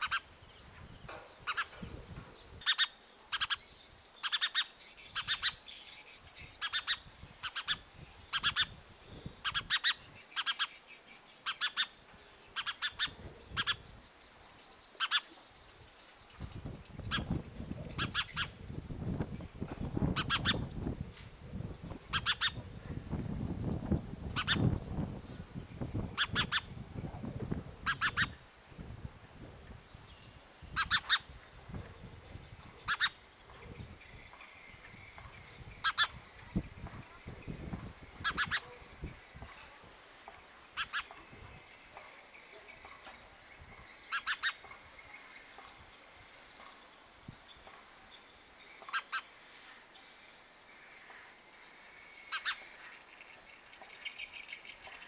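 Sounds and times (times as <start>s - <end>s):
sparrow chirping: 0.0s - 28.4s, 29.0s - 39.7s, 40.3s - 55.0s.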